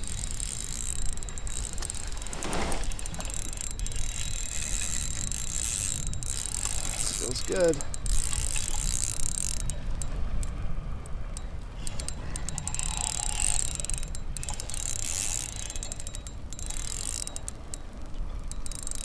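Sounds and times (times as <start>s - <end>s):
fishing reel clicking: 0.0s - 19.0s.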